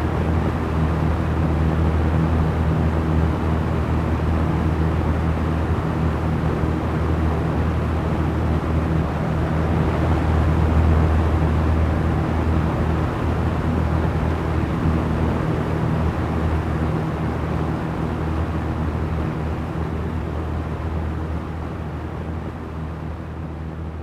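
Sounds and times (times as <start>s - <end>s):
electric fan running: 0.0s - 24.0s.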